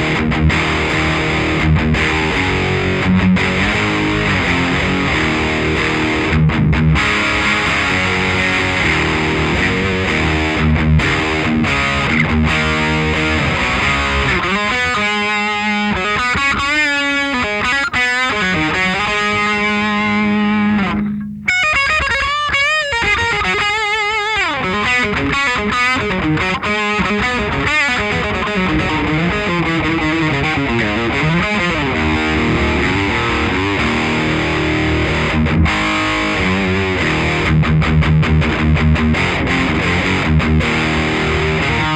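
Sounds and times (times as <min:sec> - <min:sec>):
distorted electric guitar: 0:00.0 - 0:41.9.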